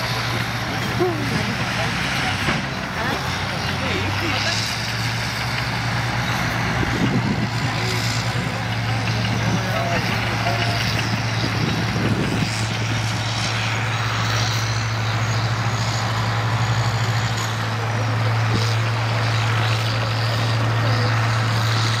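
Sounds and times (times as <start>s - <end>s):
heavy machinery engine droning: 0.0s - 22.0s.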